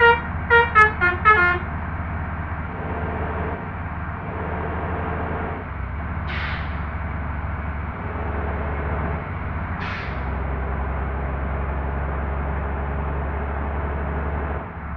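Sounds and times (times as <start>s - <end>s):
bus engine droning: 0.0s - 14.9s.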